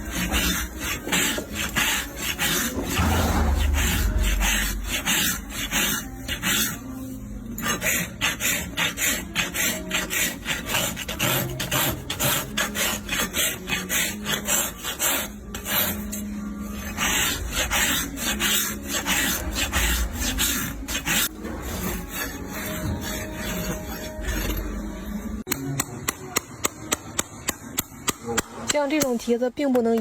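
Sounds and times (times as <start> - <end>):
rasp filing a hoof: 0.0 - 25.3.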